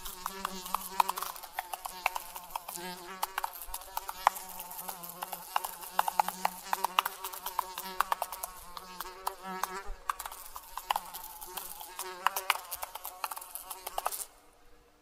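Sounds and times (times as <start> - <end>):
flying insect buzzing: 0.0 - 14.4.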